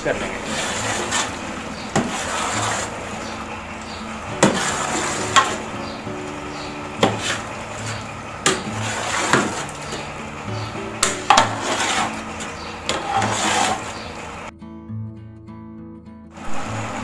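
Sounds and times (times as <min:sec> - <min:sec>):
ladle scraping and churning food: 0:00.0 - 0:14.5.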